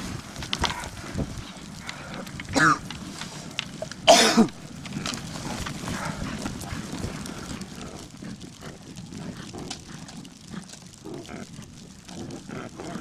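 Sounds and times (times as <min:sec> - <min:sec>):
hooves trampling on dry ground: 0:00.0 - 0:13.0
small clicks: 0:00.0 - 0:13.0.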